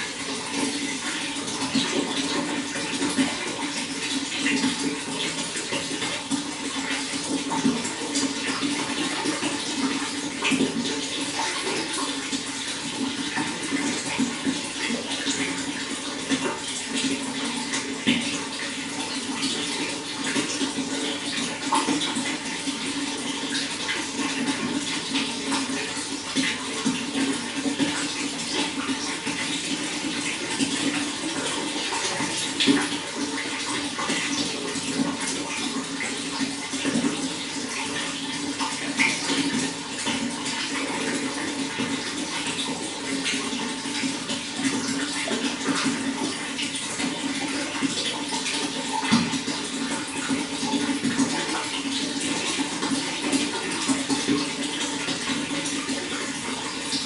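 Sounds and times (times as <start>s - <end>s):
water rushing: 0.0s - 57.0s
water splashes and drips: 0.0s - 57.0s.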